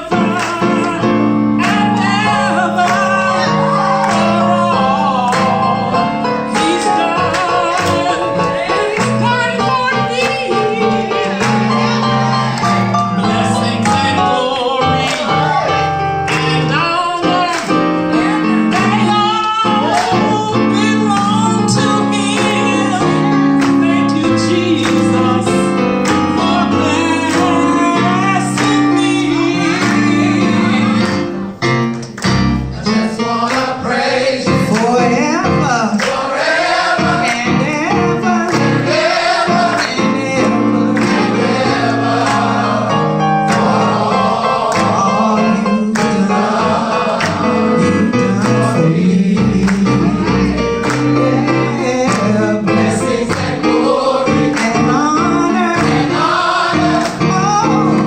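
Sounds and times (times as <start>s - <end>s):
female and male voices singing: 0.0s - 31.4s, 32.7s - 58.0s
guitar accompaniment: 0.0s - 58.0s.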